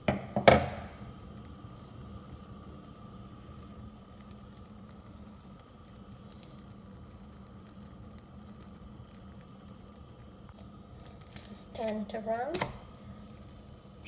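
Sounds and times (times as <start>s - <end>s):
flatbread cooking hiss: 0.0s - 14.0s.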